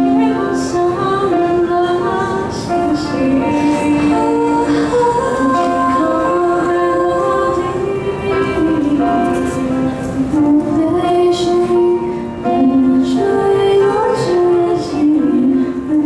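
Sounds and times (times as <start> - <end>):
women singing slow song: 0.0 - 16.0.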